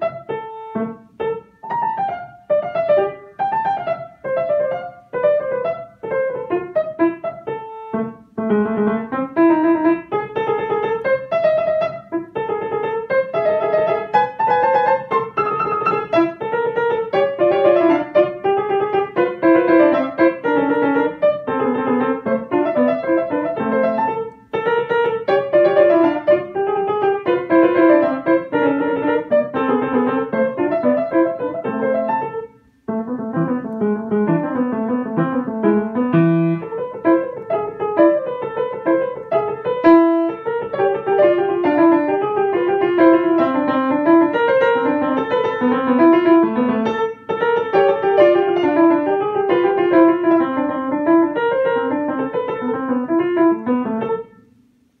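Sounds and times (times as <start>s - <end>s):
piano playing quick notes: 0.0s - 54.7s.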